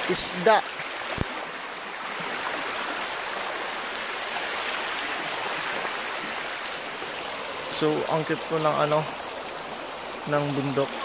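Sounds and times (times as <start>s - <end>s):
river water rushing over stones: 0.0s - 11.0s.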